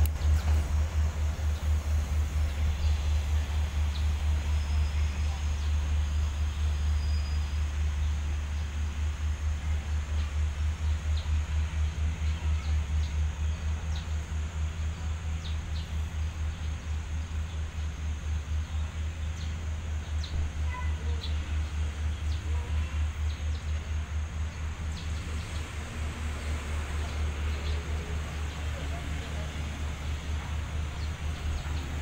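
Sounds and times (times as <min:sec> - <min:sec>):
diesel locomotive idling: 0:00.0 - 0:32.0.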